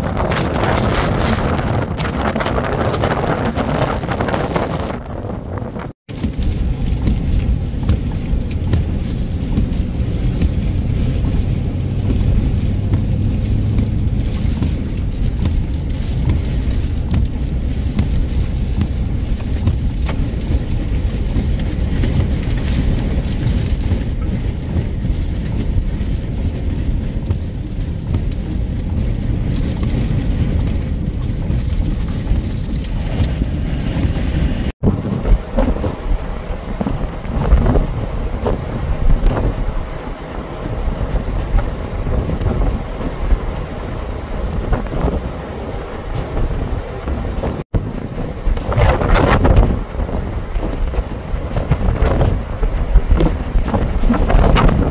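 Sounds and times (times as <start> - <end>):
wind buffeting a vehicle: 0.0 - 54.9
rain hissing: 5.8 - 54.9.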